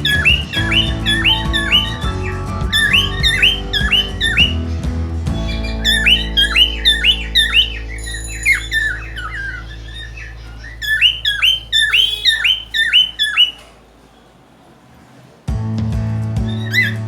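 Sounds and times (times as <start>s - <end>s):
cockatiel chirping: 0.0s - 13.8s, 16.5s - 17.0s.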